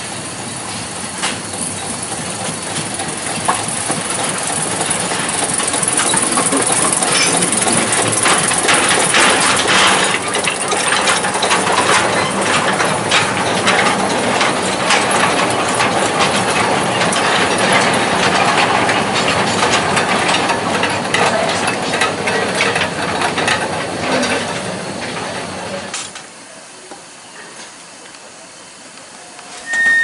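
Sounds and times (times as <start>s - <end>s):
locomotive engine running: 0.0s - 26.1s
train wagons rattling and clanking: 0.0s - 26.5s, 29.0s - 30.0s.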